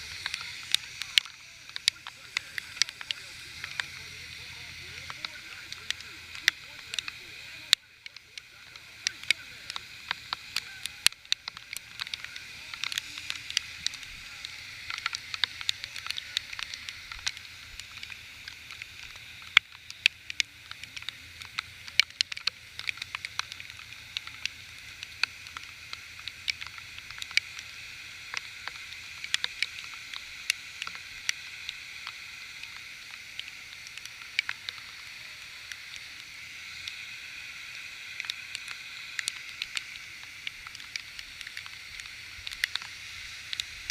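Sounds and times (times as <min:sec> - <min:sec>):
heavy rain hiss: 0:00.0 - 0:43.9
raindrops ticking close by: 0:00.0 - 0:43.9.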